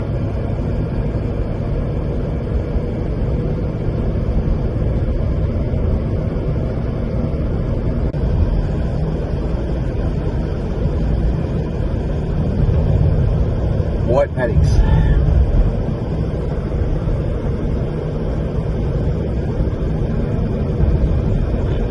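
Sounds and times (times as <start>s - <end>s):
car driving on road: 0.0s - 21.9s.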